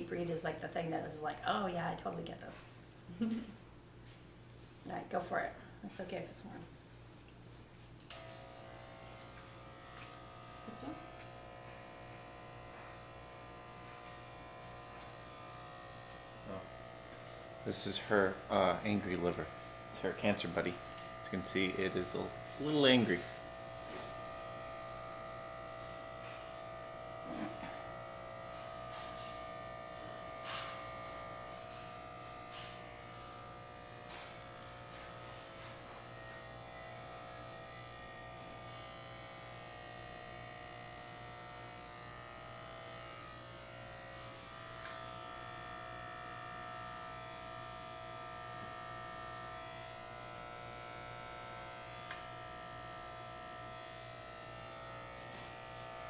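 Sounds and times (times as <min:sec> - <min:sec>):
electric hair clippers buzzing: 0:07.9 - 0:56.0.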